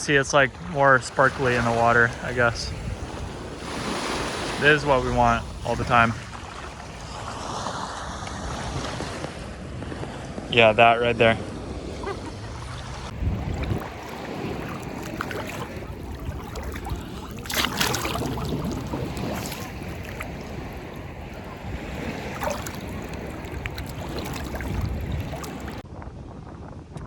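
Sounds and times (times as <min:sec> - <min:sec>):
ocean surf on a beach: 0:00.0 - 0:25.8
wind on microphone: 0:00.0 - 0:27.0.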